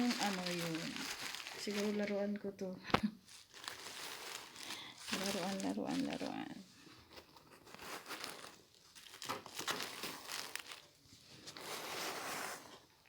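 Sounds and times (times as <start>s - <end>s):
packaging crinkling and rustling: 0.0s - 12.9s.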